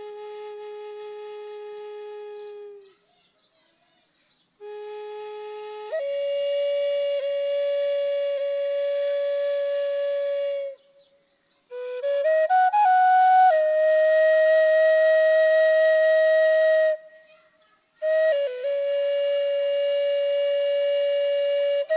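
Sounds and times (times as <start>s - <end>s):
solo flute: 0.0s - 3.0s, 4.6s - 17.3s, 18.0s - 21.9s.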